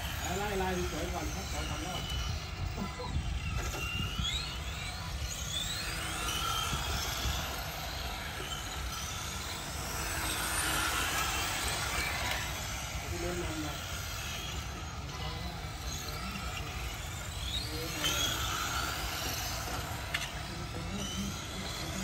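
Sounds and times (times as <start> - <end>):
electric toy car motors whining: 0.0 - 22.0.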